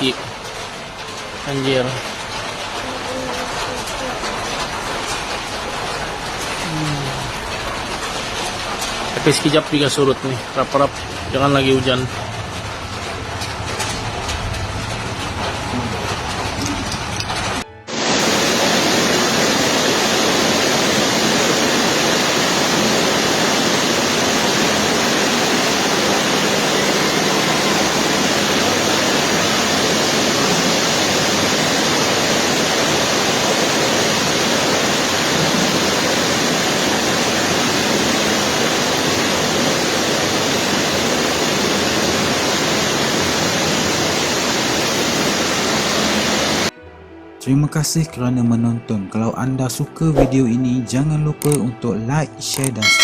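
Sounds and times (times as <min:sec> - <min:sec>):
rushing water: 0:00.0 - 0:46.7.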